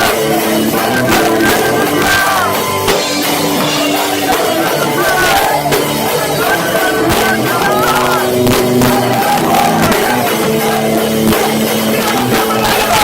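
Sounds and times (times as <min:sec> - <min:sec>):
drum kit: 0:00.0 - 0:13.0
electric guitars: 0:00.0 - 0:13.0
person singing: 0:00.0 - 0:13.0.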